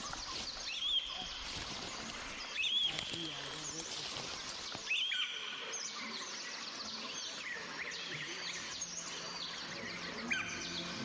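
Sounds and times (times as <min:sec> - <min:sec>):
birds chirping and calling: 0:00.0 - 0:11.0
outdoor background hiss: 0:00.0 - 0:11.0.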